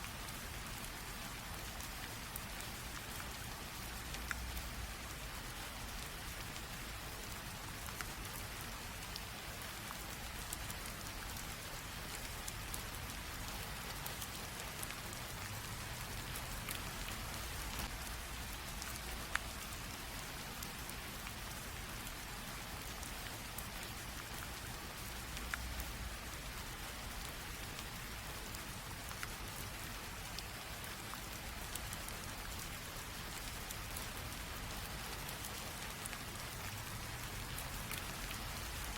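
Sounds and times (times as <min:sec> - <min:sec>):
light rain drizzling: 0:00.0 - 0:38.9
raindrops ticking: 0:00.0 - 0:38.9.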